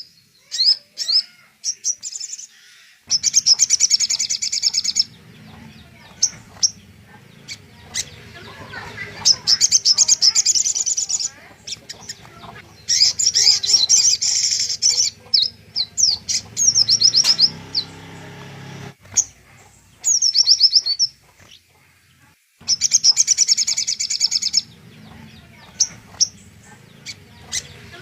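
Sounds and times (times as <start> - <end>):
recorded songbird song: 0.0 - 28.0.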